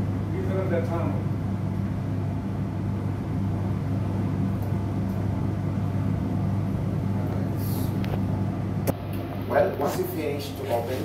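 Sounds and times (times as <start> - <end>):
extraction fan humming: 0.0 - 11.0.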